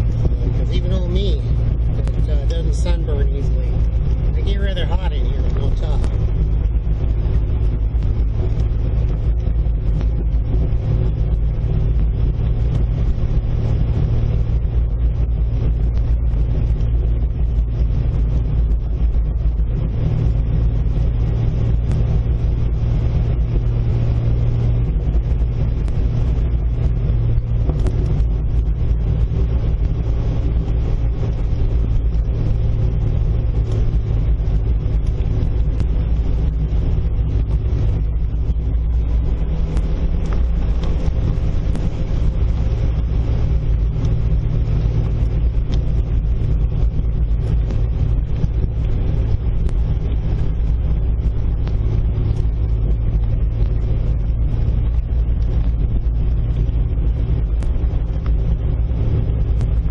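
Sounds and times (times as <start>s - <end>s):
car engine low rumble: 0.0s - 59.9s
tyres on gravel road: 0.0s - 59.9s.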